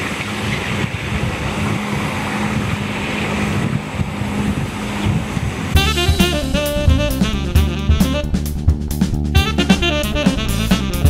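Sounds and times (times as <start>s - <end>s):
road traffic noise: 0.0s - 11.0s
wind on microphone: 0.0s - 11.0s.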